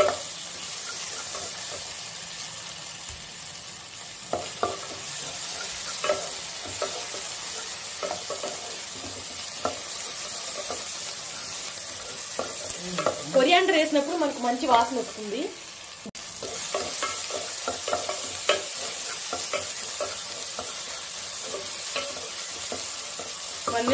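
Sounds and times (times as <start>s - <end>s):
spatula knocking and scraping pan: 0.0s - 1.9s, 4.3s - 15.0s, 16.4s - 23.9s
masala sizzling in a pan: 0.0s - 23.9s.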